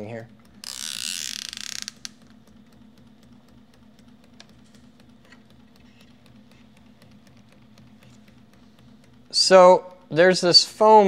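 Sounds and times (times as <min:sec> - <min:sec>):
electric motor humming: 0:00.0 - 0:11.0
faint mechanism ticking: 0:00.0 - 0:11.0
typewriter mechanical rattle: 0:00.0 - 0:11.0.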